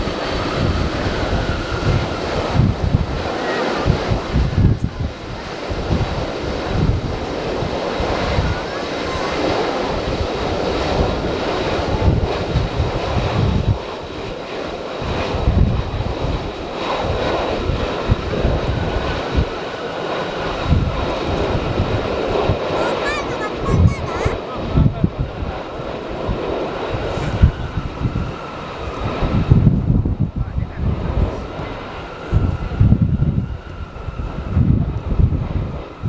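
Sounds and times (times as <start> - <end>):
airliner engine noise: 0.0 - 36.0
wind rumbling on microphone: 0.0 - 36.0.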